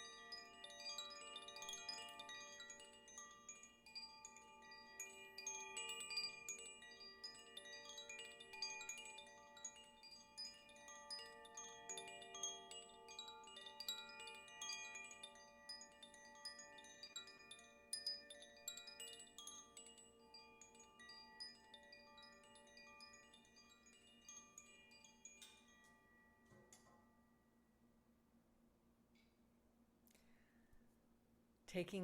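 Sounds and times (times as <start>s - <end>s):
chimes tinkling: 0.0s - 27.5s.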